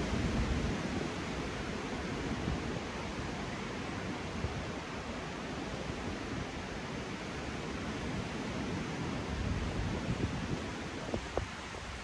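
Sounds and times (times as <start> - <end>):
wind rushing through conifers: 0.0 - 12.0.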